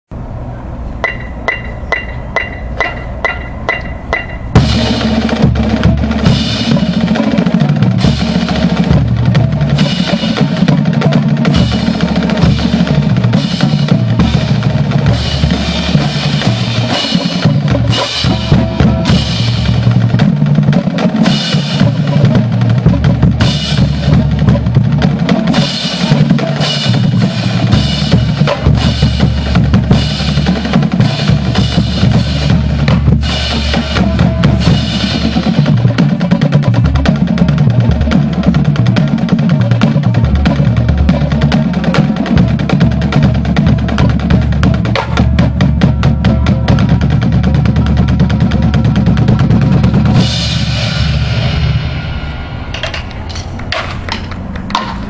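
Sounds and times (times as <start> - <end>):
marching drumline playing: 1.0 - 55.0.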